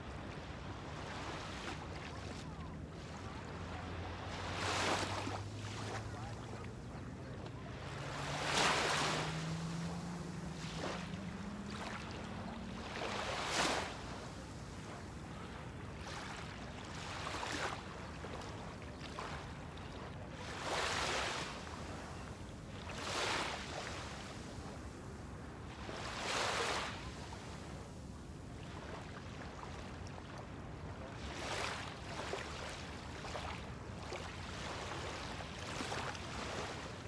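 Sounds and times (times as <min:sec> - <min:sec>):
small waves lapping on sand: 0:00.0 - 0:37.0
wind: 0:00.0 - 0:37.0.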